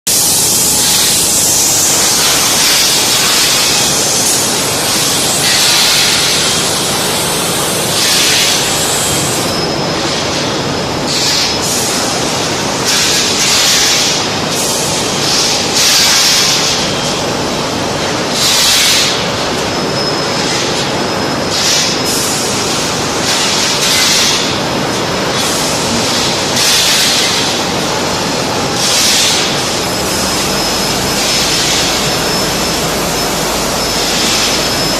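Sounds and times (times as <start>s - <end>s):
painting machine running: 0.1s - 34.9s.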